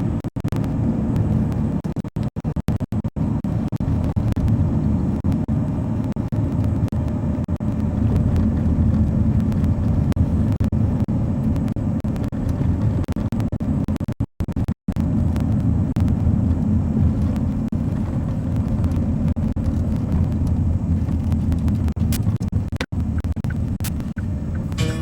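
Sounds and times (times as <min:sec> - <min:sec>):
lorry engine rumbling: 0:00.0 - 0:14.1, 0:14.9 - 0:25.0.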